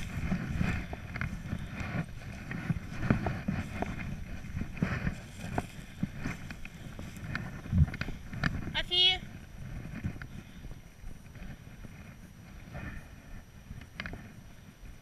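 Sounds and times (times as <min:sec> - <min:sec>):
light clicks and rustles: 0:00.0 - 0:15.0
wind rumbling on microphone: 0:00.0 - 0:15.0.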